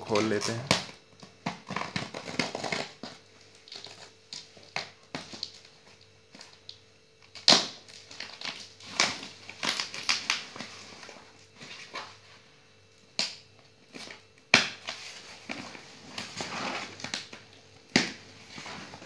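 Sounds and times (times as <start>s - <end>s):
packing tape crackling and tearing: 0.1s - 12.2s, 13.0s - 19.0s.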